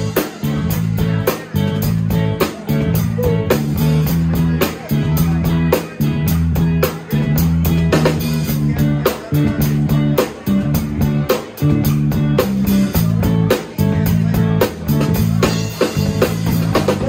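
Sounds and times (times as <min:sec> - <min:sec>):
bass guitar: 0:00.0 - 0:17.0
drum beat: 0:00.0 - 0:17.0
electric guitar: 0:00.0 - 0:17.0.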